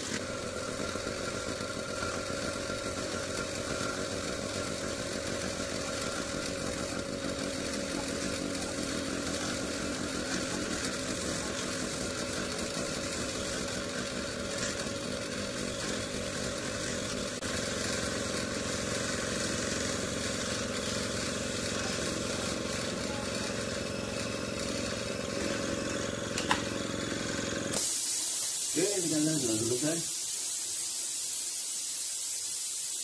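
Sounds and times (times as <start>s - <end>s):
airbrush spraying hiss: 0.0s - 26.1s, 27.8s - 33.0s
air compressor motor humming: 0.0s - 33.0s.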